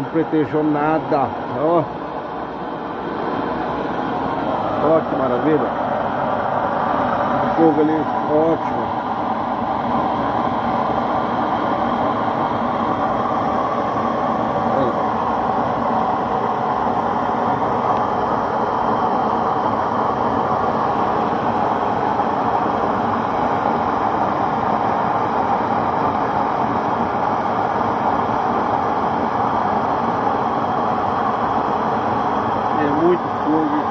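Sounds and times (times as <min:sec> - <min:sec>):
burner stove flame rushing: 0:00.0 - 0:33.9.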